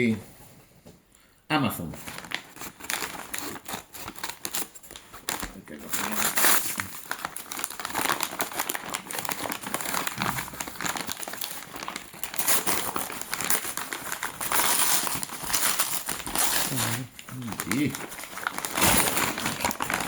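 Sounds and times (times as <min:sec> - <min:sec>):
packaging crinkling and rustling: 0:01.8 - 0:20.0.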